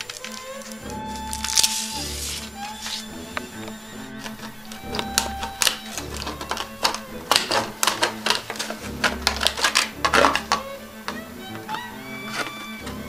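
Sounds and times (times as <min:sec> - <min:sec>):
plastic sheet clicking and snapping: 0:00.0 - 0:11.2
background music: 0:00.0 - 0:13.0.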